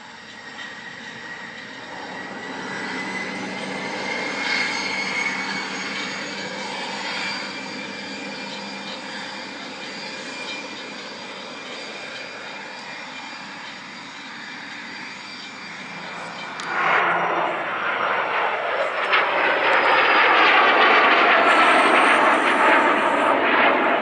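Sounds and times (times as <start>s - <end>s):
jet engine whine: 0.0s - 24.0s
jet roaring at takeoff: 0.0s - 24.0s.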